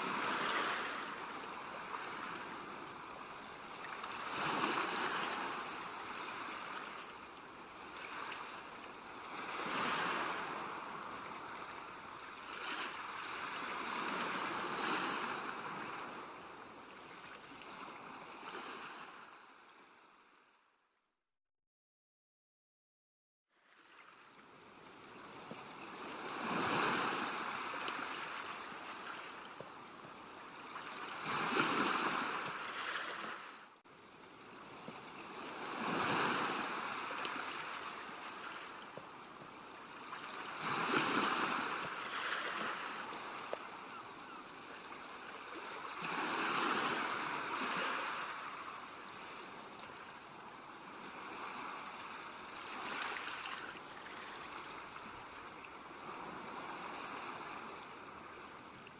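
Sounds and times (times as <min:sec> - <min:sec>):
sea waves washing onto shore: 0:00.0 - 0:16.5, 0:24.8 - 0:58.4.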